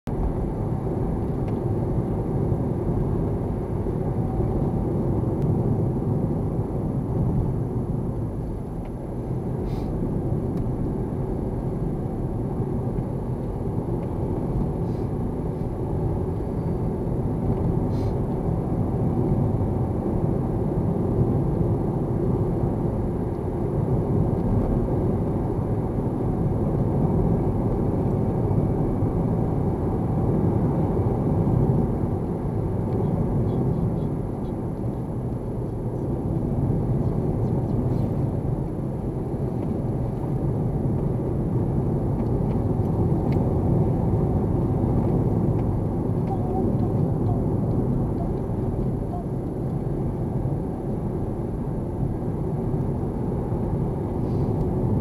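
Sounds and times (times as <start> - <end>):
car driving cabin noise: 0.1 - 55.0.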